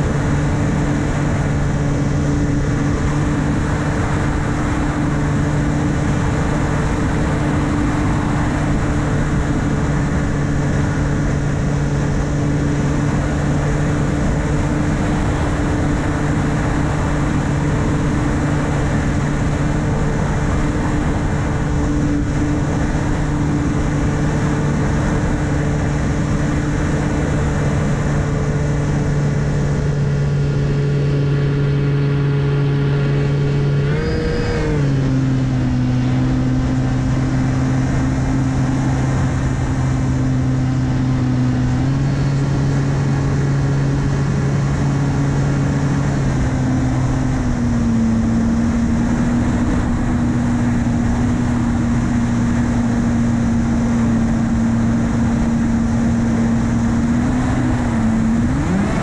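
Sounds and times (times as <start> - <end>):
drone motor humming: 0.0 - 59.0
wind noise: 0.0 - 59.0.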